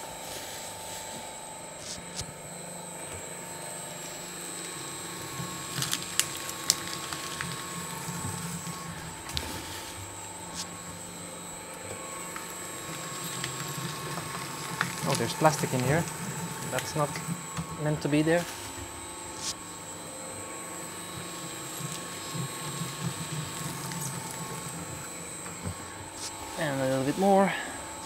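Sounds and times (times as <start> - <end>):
paper shredder motor hum: 0.0 - 28.0.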